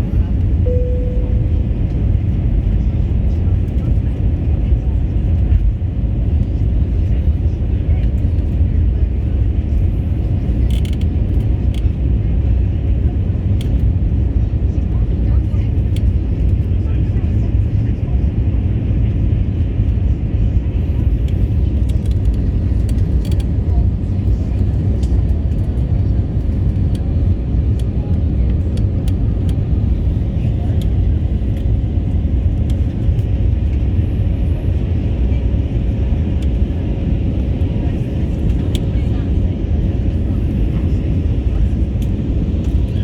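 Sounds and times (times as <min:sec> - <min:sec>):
jet engine and airflow rumble: 0:00.0 - 0:43.0.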